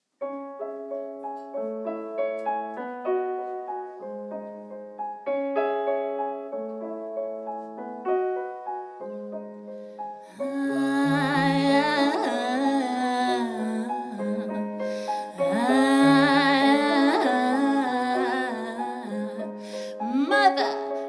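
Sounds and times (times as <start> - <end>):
solo piano broken chords: 0.2 - 21.0.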